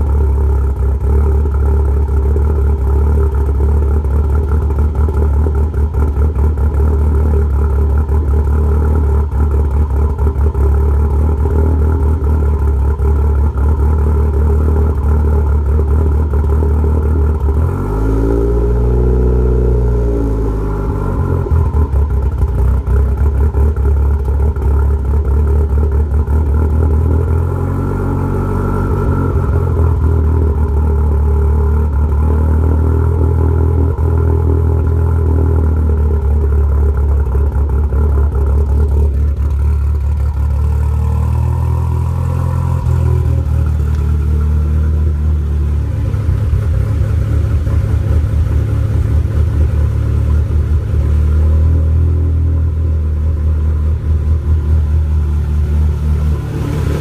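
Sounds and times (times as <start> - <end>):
turbocharged car engine idling: 0.0 - 57.0.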